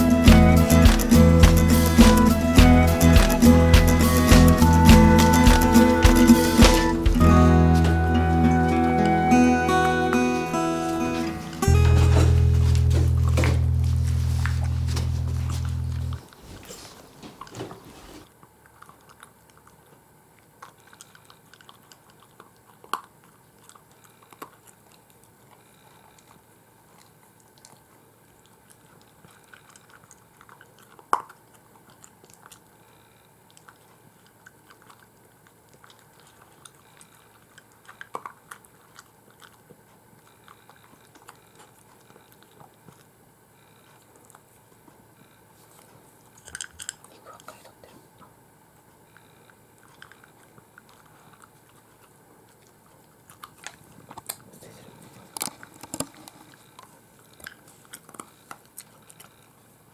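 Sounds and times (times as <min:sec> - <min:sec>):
dog chewing with crunches: 0:00.0 - 0:09.4, 0:10.1 - 0:59.9.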